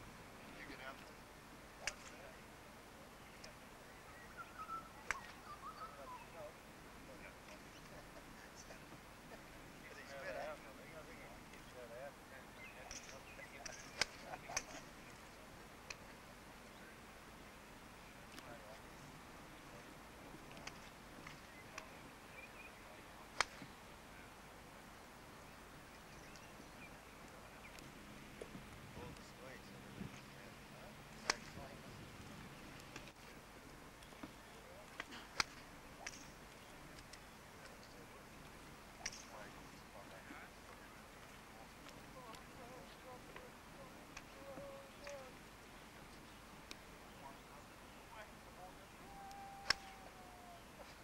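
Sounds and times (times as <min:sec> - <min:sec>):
birds chirping faintly: 0:00.0 - 0:51.0
faint outdoor background: 0:00.0 - 0:51.0.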